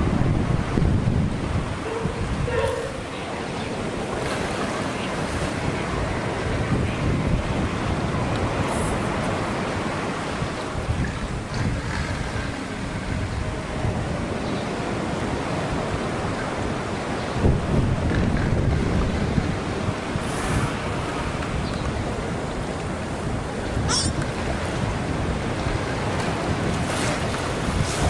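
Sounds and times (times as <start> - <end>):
wind buffeting microphone: 0.0 - 28.0
pool water sloshing: 1.8 - 17.4, 19.1 - 28.0.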